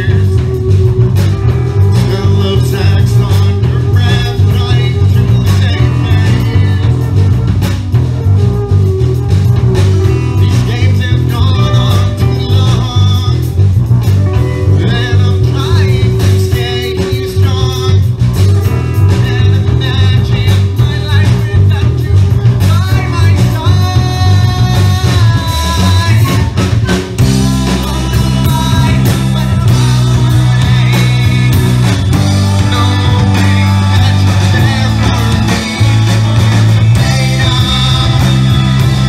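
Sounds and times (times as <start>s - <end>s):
bass guitar: 0.0s - 39.0s
drums: 0.0s - 39.0s
electric guitars: 0.0s - 39.0s
keyboards: 0.0s - 39.0s
man singing: 0.0s - 39.0s.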